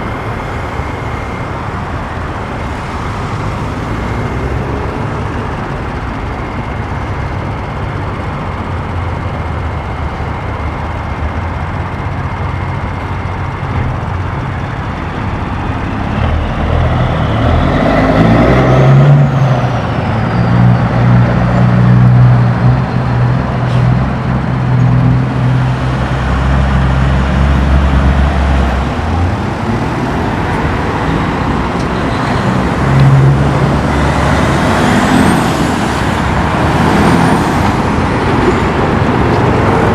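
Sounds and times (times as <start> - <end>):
diesel truck engines accelerating: 0.0 - 39.9.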